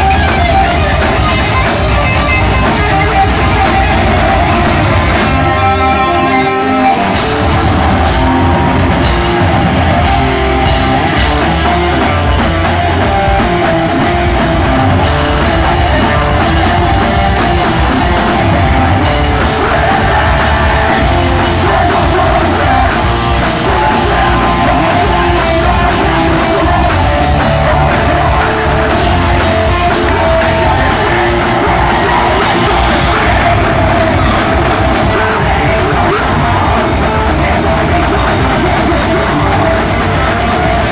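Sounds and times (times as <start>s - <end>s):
distorted electric guitar: 0.0s - 40.9s
drum kit: 0.0s - 40.9s
metal band playing live: 0.0s - 40.9s.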